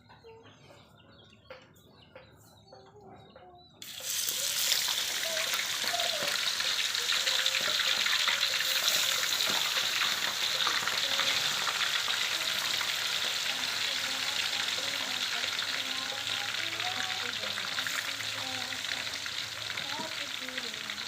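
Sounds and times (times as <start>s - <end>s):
potatoes frying in hot oil: 3.8s - 21.0s.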